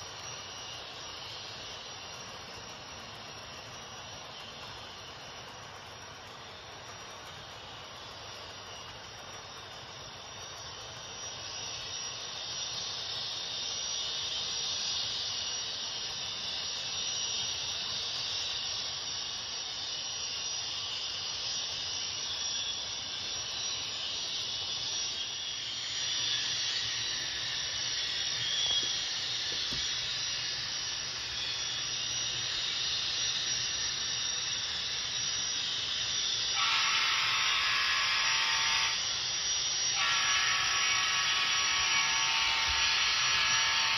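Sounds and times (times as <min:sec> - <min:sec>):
steady turbine hiss: 0:00.0 - 0:43.9.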